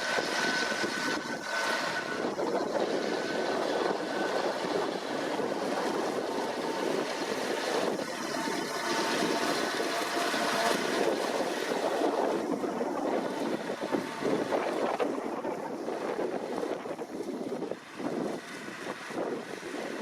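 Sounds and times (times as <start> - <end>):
tractor engine and machine noise: 0.0 - 20.0
wind buffeting microphone: 0.0 - 20.0.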